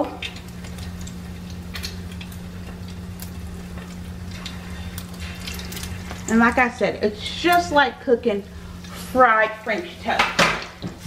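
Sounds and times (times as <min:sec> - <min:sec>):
low steady hum: 0:00.0 - 0:11.0
sizzling with pops and crackles: 0:00.0 - 0:11.0.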